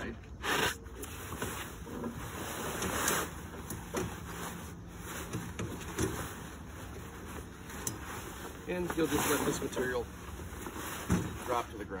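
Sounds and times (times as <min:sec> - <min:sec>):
fabric rustling and dragging: 0:00.6 - 0:12.0.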